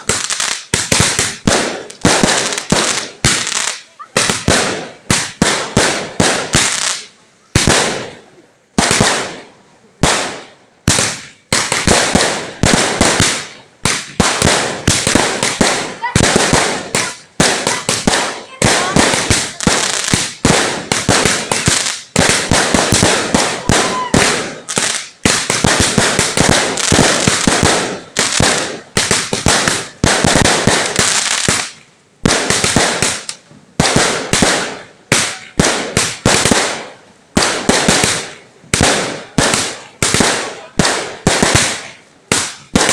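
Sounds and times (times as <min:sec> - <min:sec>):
firecrackers banging: 0:00.0 - 0:42.9.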